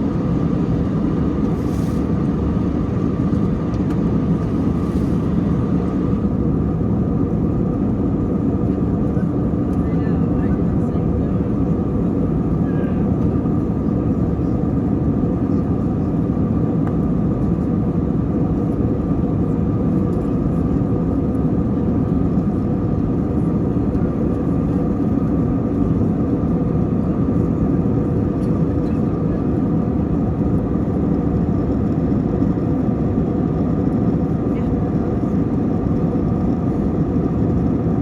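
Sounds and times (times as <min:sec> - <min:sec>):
aircraft cabin engine rumble: 0:00.0 - 0:38.0.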